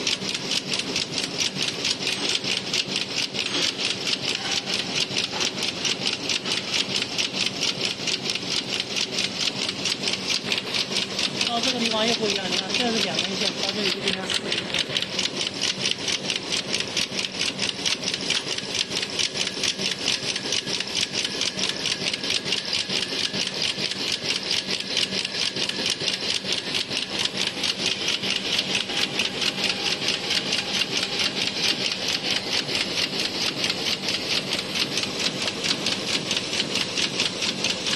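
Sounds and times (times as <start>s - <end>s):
knitting machine clattering: 0.0s - 37.9s.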